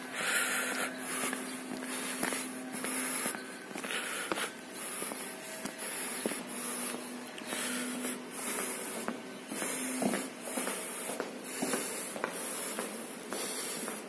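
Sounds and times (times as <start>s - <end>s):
footsteps on a hard floor: 0.8s - 14.0s.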